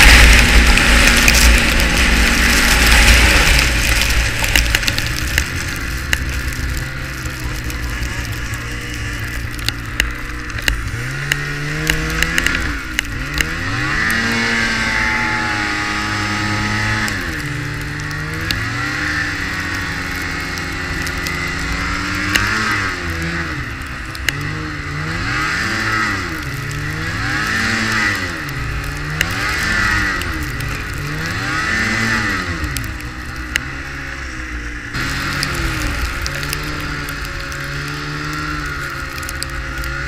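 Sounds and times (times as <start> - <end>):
snowmobile engine revving: 0.0 - 40.0.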